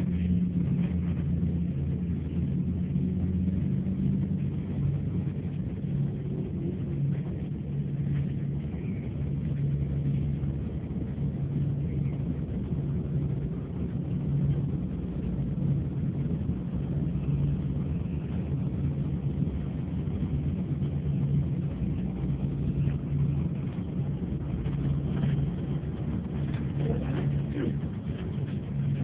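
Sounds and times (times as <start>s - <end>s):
coach engine and road noise: 0.0s - 29.0s
strong low hum: 0.0s - 29.0s.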